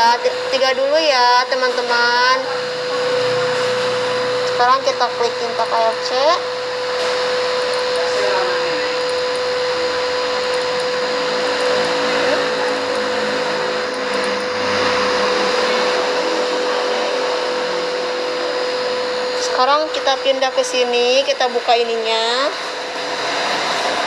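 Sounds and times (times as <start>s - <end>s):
electric motor whirring: 0.0s - 24.0s.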